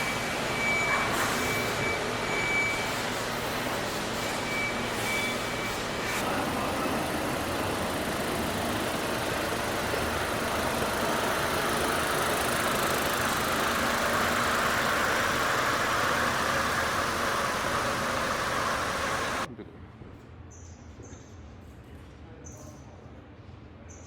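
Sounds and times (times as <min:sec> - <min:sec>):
engine running steadily: 0:00.0 - 0:19.5.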